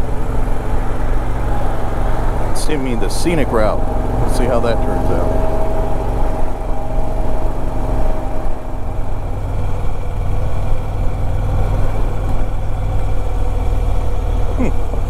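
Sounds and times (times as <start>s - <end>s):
faint steady tone: 0.0s - 14.4s
motorcycle engine rumbling: 0.0s - 15.0s.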